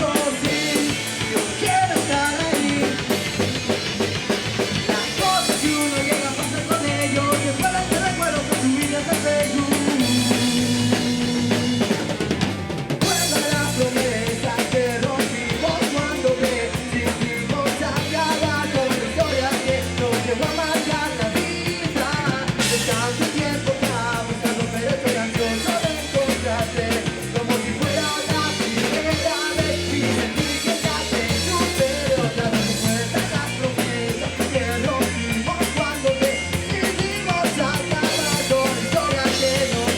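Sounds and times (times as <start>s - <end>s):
drum kit beat: 0.0s - 39.9s
rock music: 0.0s - 39.9s.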